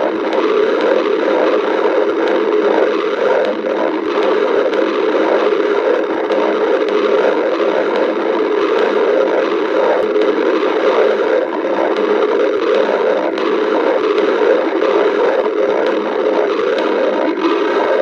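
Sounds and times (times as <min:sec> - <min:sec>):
stomach growling: 0:00.0 - 0:18.0.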